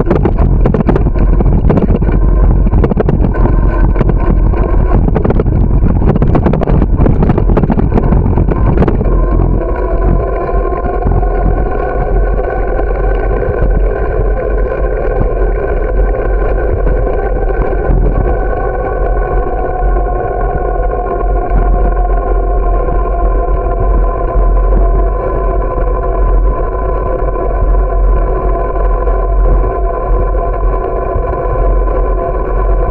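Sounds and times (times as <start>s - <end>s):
bike tyres humming on asphalt: 0.0s - 32.9s.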